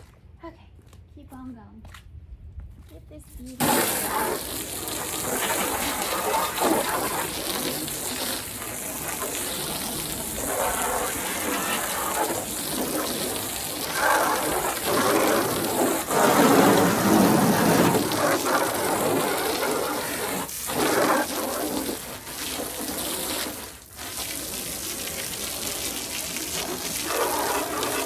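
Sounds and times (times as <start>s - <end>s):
water spray hissing on truck: 3.6s - 28.0s.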